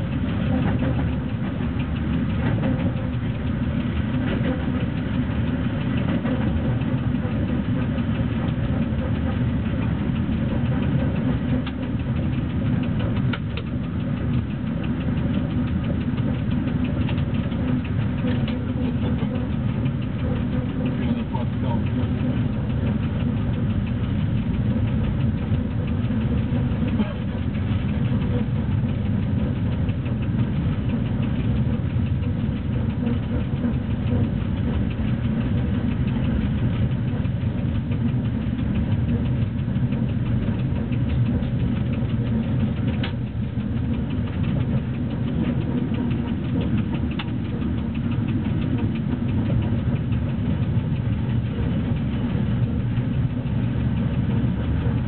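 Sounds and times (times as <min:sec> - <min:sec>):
locomotive rumble on rails: 0:00.0 - 0:55.0.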